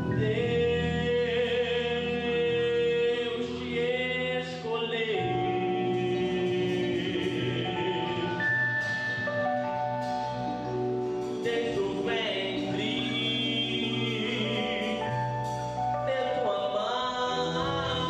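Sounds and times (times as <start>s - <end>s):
gospel singing over chords: 0.0s - 18.0s.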